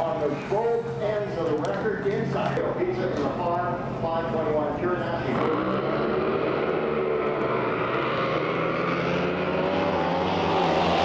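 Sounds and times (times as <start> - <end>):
racing boat engine drone: 0.0 - 11.0.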